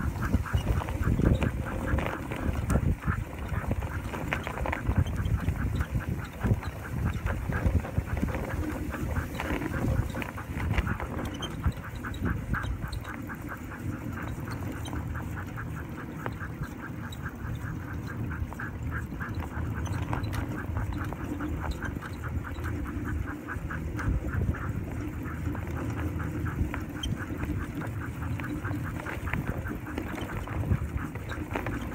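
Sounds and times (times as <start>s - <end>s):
cart rolling on snow: 0.0s - 31.9s
dogs panting rhythmically: 0.0s - 31.9s.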